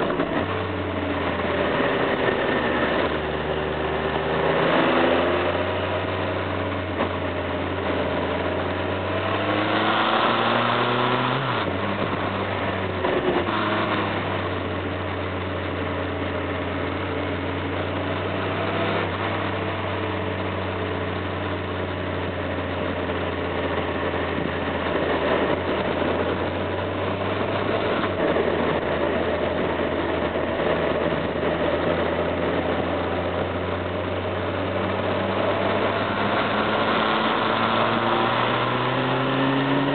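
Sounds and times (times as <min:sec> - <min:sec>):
motorcycle engine accelerating: 0:00.0 - 0:39.9
rushing wind and road noise: 0:00.0 - 0:39.9.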